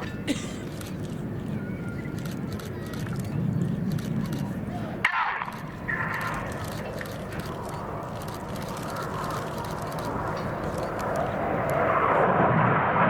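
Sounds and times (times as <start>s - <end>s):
jets flying past: 2.4s - 13.0s.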